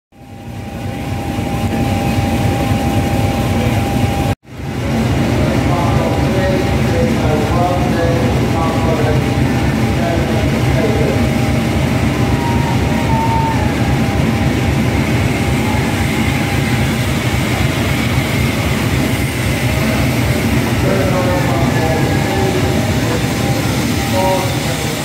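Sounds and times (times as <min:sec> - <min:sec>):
steam locomotive rumbling: 0:00.2 - 0:25.0.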